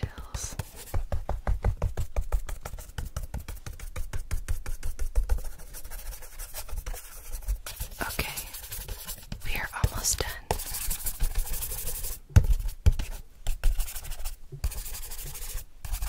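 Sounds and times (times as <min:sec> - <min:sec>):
paintbrush scratching on paper: 0:00.0 - 0:16.0.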